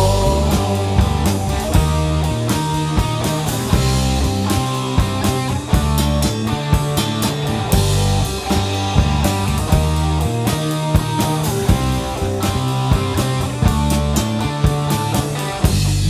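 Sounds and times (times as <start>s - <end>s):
bass guitar: 0.0s - 16.0s
drum kit beat: 0.0s - 16.0s
guitar: 0.0s - 16.0s.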